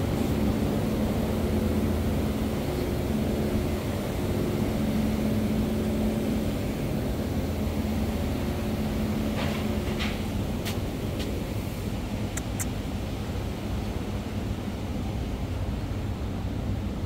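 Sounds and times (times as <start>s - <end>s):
low rumble with motor hum: 0.0s - 17.0s.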